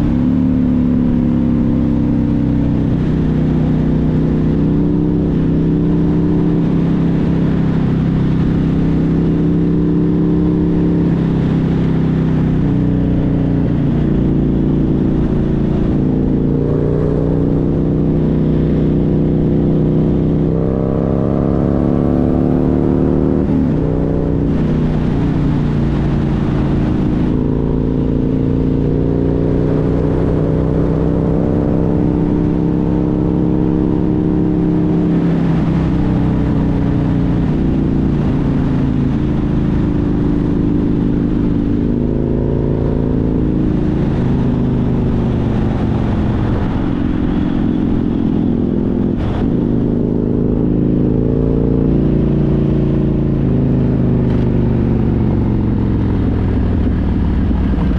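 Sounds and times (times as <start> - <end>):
road and wind noise: 0.0 - 57.9
vehicle engine revving: 0.0 - 57.9.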